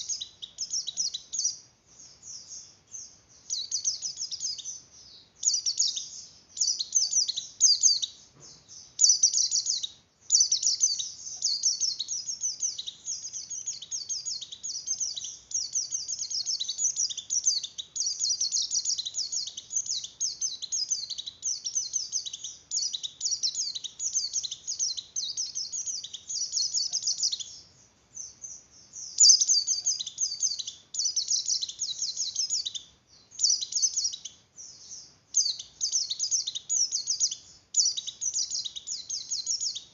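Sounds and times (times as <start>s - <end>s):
bird high twittering song: 0.0s - 39.9s.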